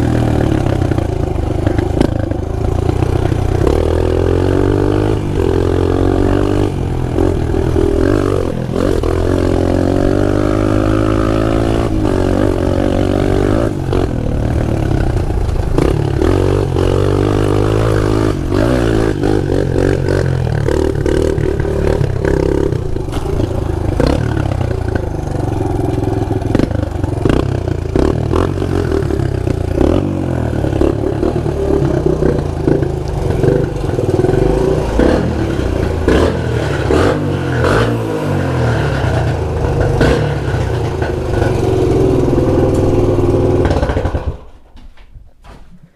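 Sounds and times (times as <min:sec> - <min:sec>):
motorbike engine revving: 0:00.0 - 0:44.5.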